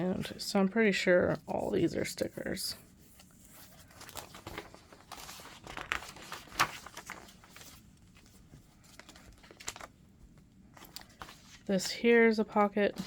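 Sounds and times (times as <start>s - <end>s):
paper pages rustling: 1.4s - 13.0s.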